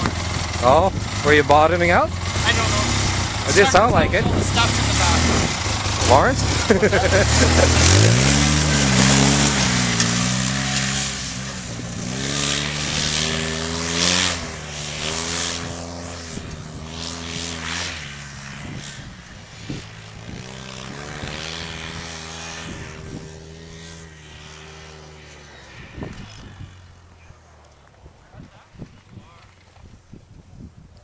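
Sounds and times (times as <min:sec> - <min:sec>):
off-road vehicle engine revving: 0:00.0 - 0:29.6.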